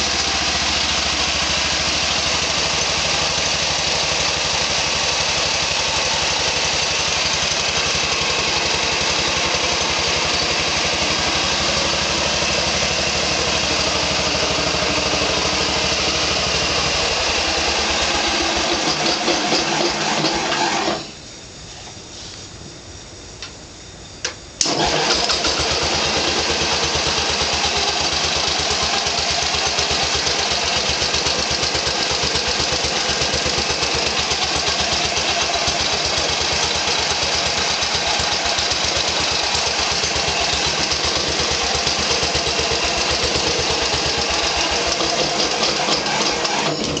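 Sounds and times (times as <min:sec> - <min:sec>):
small engine starting and running: 0:00.0 - 0:21.2, 0:24.2 - 0:47.0.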